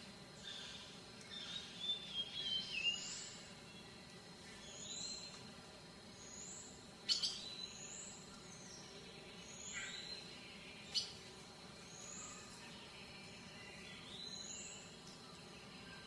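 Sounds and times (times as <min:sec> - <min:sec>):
soft outdoor background: 0:00.0 - 0:16.0
small birds chirping: 0:00.3 - 0:16.0.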